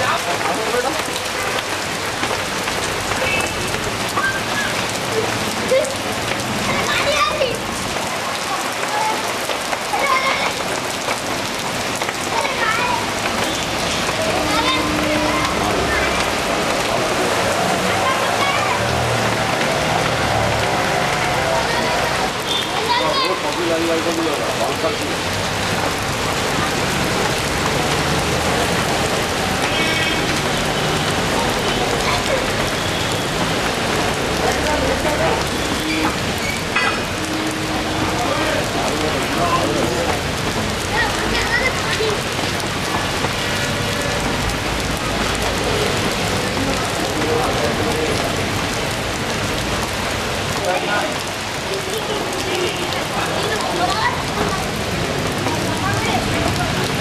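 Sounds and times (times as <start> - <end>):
rain hissing on road: 0.0 - 57.0.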